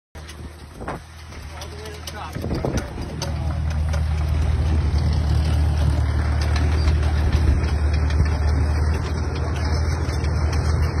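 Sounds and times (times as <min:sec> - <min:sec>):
large engine idling: 0:00.2 - 0:11.0.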